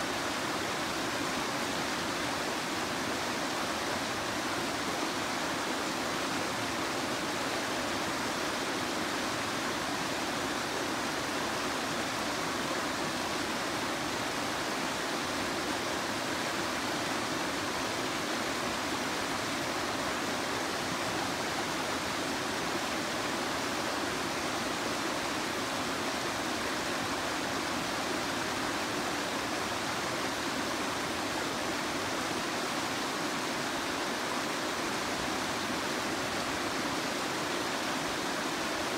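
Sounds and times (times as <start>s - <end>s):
river water rushing over weir: 0.0s - 38.9s.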